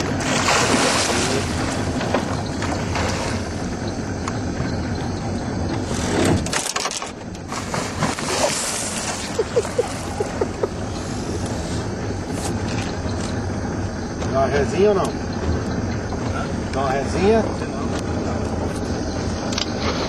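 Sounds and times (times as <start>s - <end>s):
small boat rushing on water: 0.0s - 20.0s.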